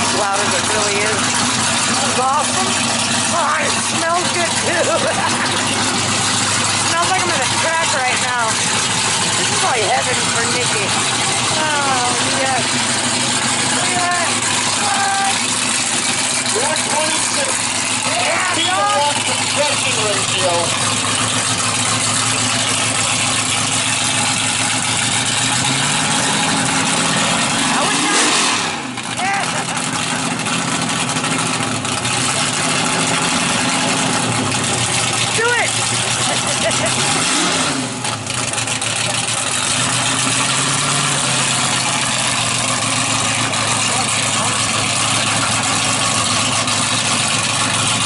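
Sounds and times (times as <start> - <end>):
car engine idling loudly: 0.0 - 48.0.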